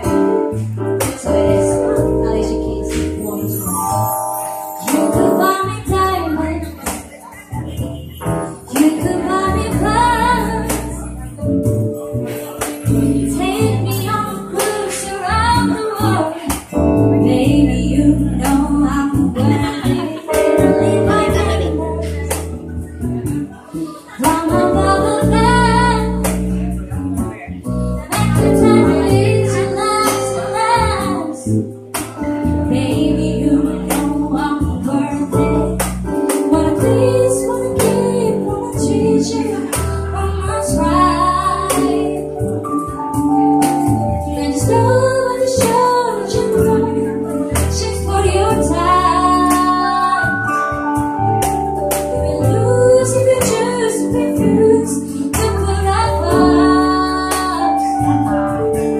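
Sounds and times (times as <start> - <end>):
woman singing into a microphone: 0.0 - 11.4, 12.4 - 58.9
acoustic guitar: 0.0 - 58.9
electric bass: 0.0 - 58.9
keyboard: 0.0 - 58.9.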